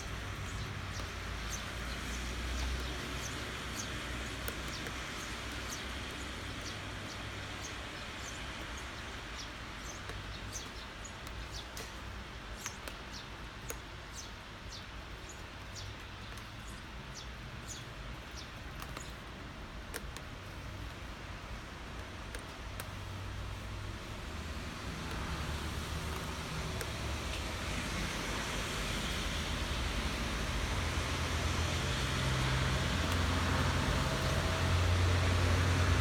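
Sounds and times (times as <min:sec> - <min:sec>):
steady rain falling: 0:00.0 - 0:36.0.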